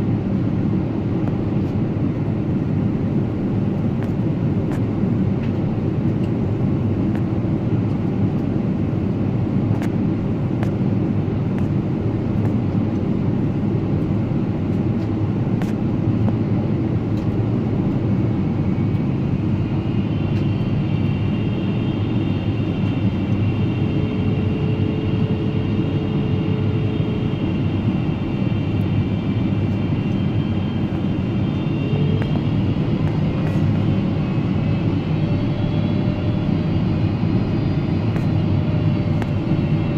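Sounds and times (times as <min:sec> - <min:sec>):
aircraft cabin drone: 0:00.0 - 0:39.9.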